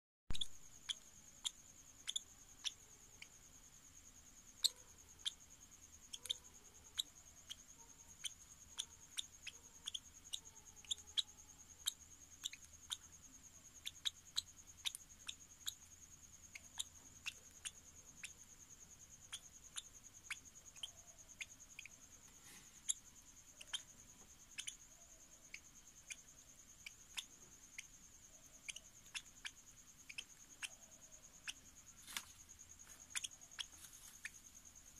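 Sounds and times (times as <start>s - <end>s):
faint steady high whine: 0.3s - 34.9s.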